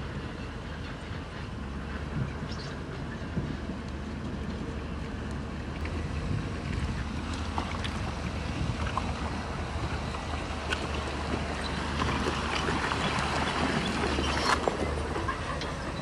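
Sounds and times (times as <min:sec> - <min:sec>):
heavy machinery diesel rumble: 0:00.0 - 0:16.0.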